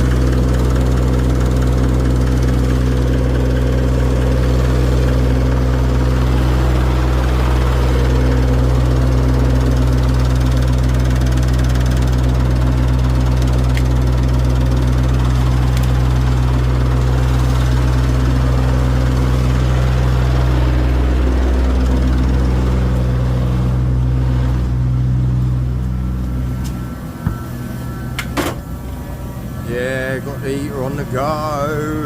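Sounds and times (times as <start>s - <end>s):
forklift engine idling: 0.0s - 32.0s.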